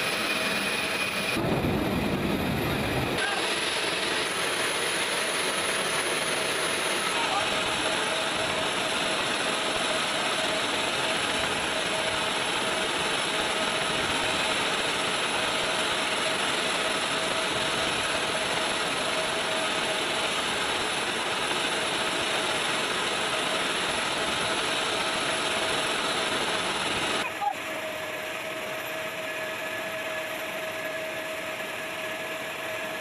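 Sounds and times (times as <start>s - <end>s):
jet turbine whine: 0.0s - 33.0s.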